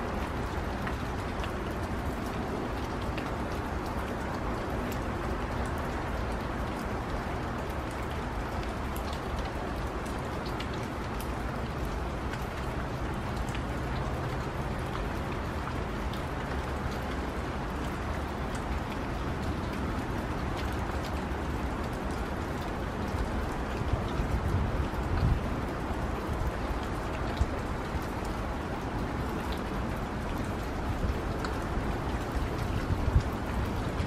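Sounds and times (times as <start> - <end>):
light rain falling: 0.0 - 34.0
raindrops ticking: 0.0 - 34.0.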